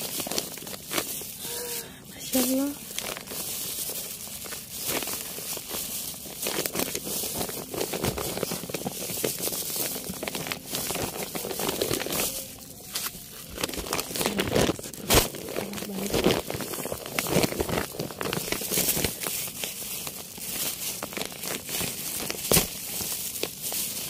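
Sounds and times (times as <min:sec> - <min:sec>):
hands digging through soil: 0:00.0 - 0:24.0
plastic sheeting crinkling: 0:00.0 - 0:24.0.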